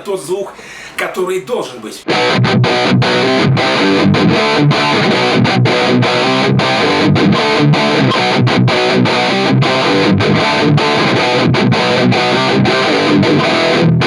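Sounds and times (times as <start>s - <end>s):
distorted electric guitar riff: 2.0s - 14.0s.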